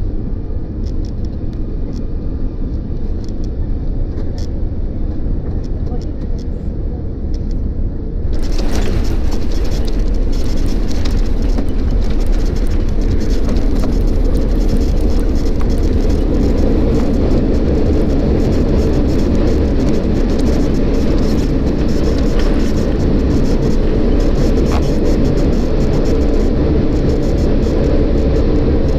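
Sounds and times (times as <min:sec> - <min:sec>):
jet cabin rumble and rush: 0:00.0 - 0:28.9.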